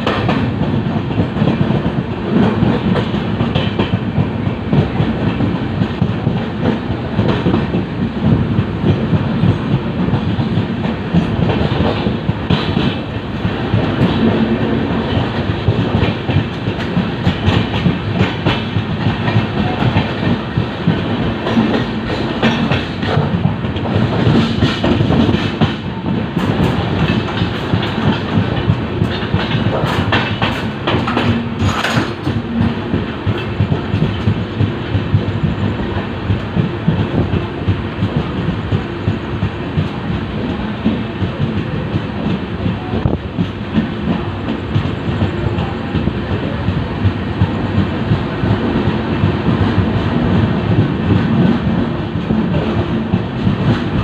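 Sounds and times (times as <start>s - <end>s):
train wheels clattering over joints: 0.0s - 54.0s.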